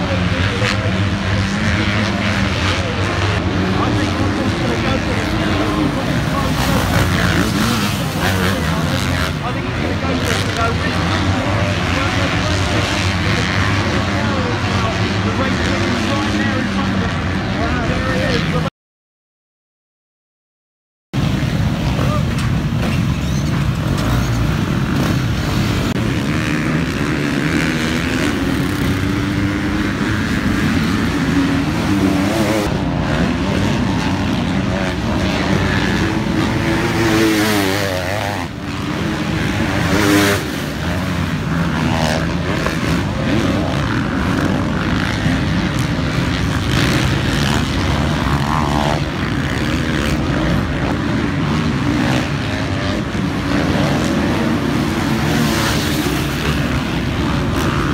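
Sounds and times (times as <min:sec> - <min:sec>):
dirt bike engine revving: 0:00.0 - 0:18.7, 0:21.2 - 0:57.9.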